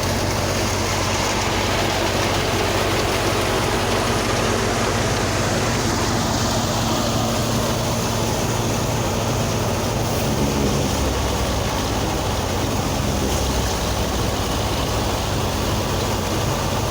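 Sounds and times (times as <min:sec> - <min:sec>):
harvesting machinery engine hum: 0:00.0 - 0:16.9.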